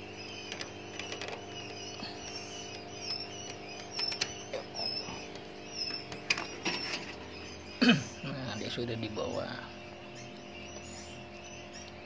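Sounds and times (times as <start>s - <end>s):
faint high squeaky chirps: 0.0s - 12.0s
steady low hum: 0.0s - 12.0s.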